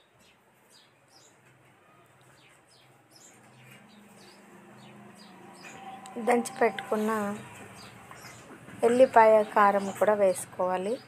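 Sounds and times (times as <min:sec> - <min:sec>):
small bird chirping: 0:02.1 - 0:11.0.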